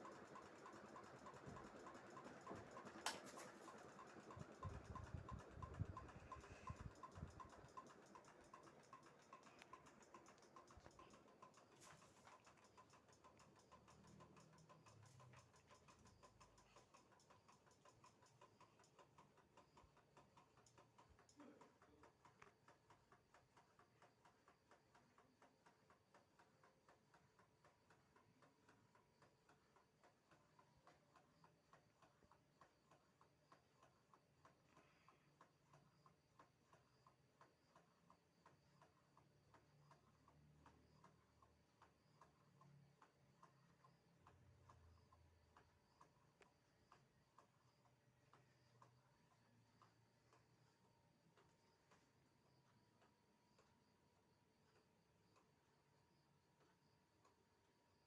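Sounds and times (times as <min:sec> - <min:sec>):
ceiling fan ticking: 0:00.0 - 0:58.0.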